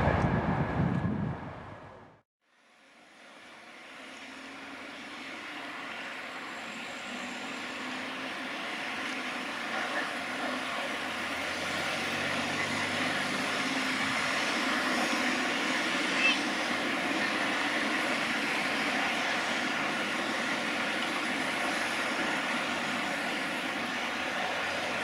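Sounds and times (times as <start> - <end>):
train rushing rumble: 0.0 - 2.2, 3.8 - 25.0.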